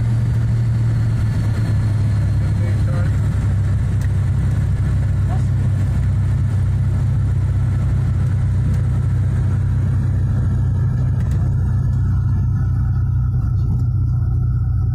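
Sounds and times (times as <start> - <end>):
propeller plane engine drone: 0.0 - 14.9.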